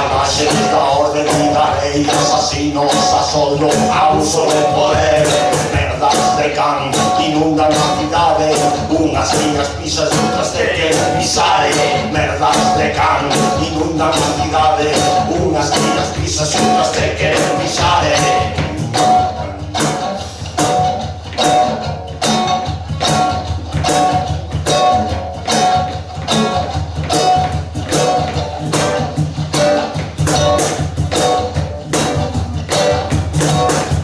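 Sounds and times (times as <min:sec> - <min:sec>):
fast drum beat: 0:00.0 - 0:34.0
live band playing: 0:00.0 - 0:34.0.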